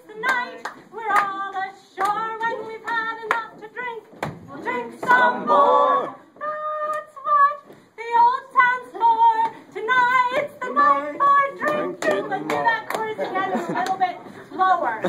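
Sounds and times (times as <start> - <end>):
group singing unaccompanied: 0.0 - 15.0.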